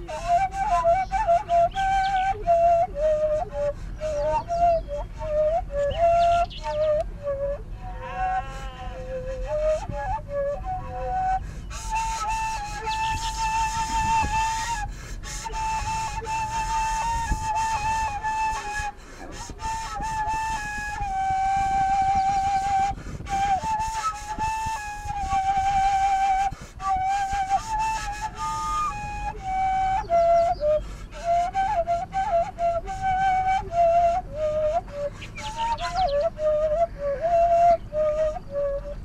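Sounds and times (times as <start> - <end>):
solo wind instrument melody: 0.0 - 39.0.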